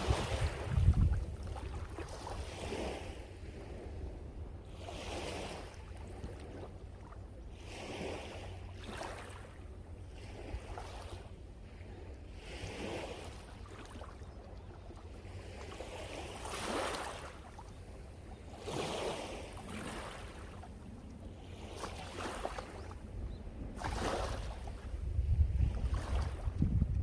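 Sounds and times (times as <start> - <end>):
sea waves breaking: 0.0 - 14.2, 14.8 - 27.0
wind rumble on microphone: 0.0 - 16.8, 17.4 - 27.0.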